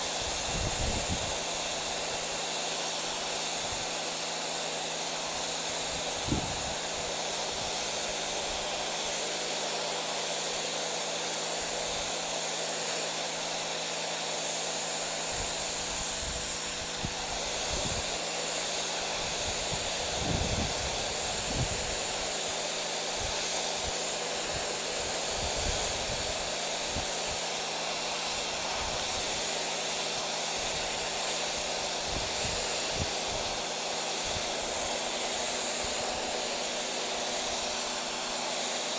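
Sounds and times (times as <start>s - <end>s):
pressure washer spraying: 0.0s - 38.9s.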